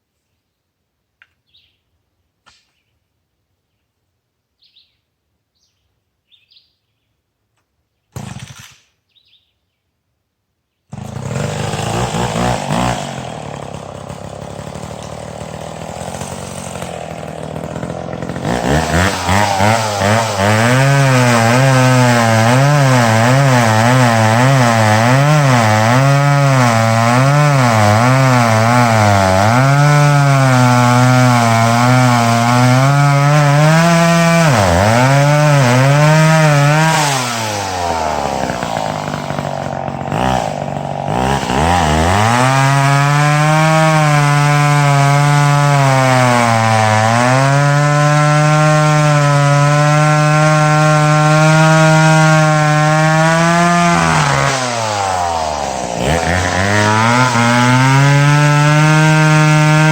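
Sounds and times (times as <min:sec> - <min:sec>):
chainsaw cutting wood: 0:08.1 - 0:09.0, 0:10.9 - 0:59.9.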